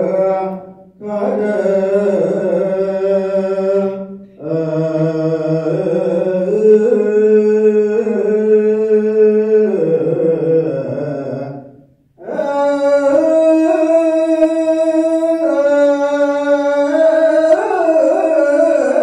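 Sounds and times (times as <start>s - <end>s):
liturgical chant: 0.0s - 19.0s.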